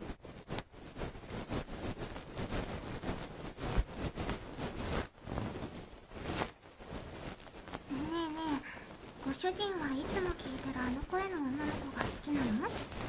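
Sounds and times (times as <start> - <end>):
furry tail brushing microphone: 0.8 - 13.0.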